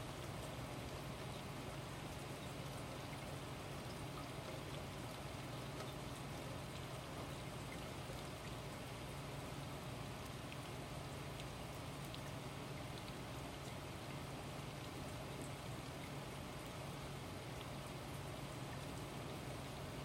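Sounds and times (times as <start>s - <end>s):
faint low hum: 0.0s - 20.0s
light rain falling: 0.0s - 20.0s.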